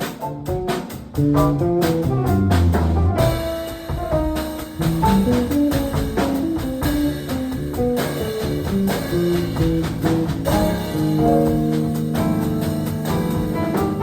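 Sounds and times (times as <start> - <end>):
bass: 0.0 - 14.0
drums: 0.0 - 14.0
piano: 0.0 - 14.0.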